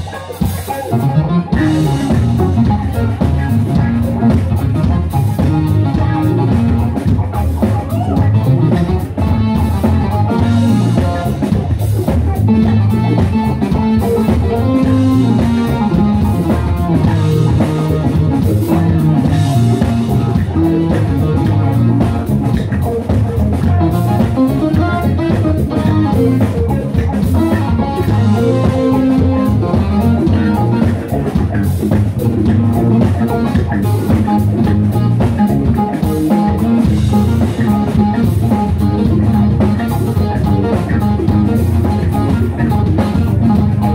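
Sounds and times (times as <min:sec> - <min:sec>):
bass guitar: 0:00.0 - 0:43.9
drum kit beat: 0:00.0 - 0:43.9
electric guitar: 0:00.0 - 0:43.9
keyboards: 0:00.0 - 0:43.9.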